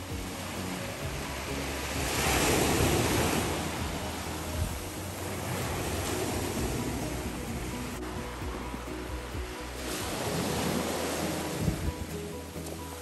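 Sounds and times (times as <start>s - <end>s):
small waves breaking on shore: 0.0s - 13.0s
wind buffeting microphone: 1.0s - 12.3s.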